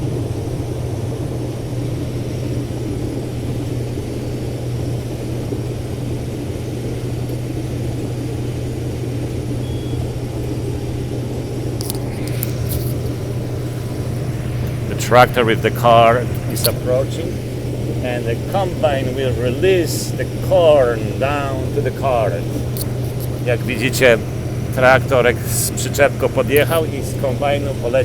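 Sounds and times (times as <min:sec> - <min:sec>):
combine engine and threshing machinery: 0:00.0 - 0:28.0.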